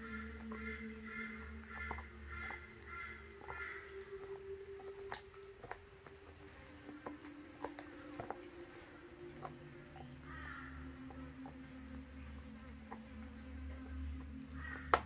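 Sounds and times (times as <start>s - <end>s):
dog chewing a bone: 0.0s - 15.0s
steady low hum: 0.0s - 15.0s.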